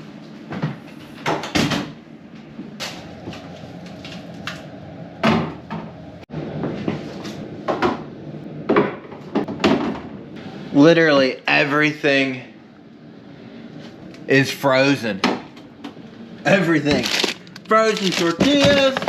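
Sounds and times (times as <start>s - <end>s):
low hum: 2.0s - 17.7s.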